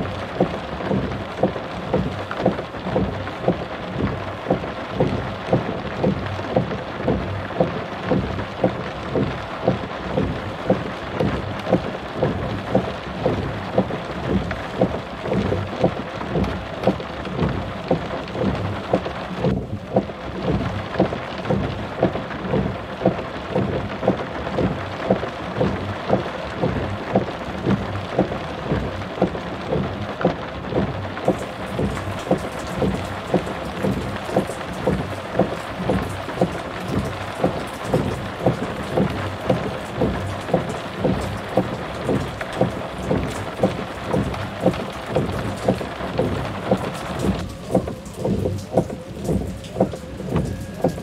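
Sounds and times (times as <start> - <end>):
low repeating thuds: 0.0 - 51.0
steady rushing noise: 0.0 - 51.0.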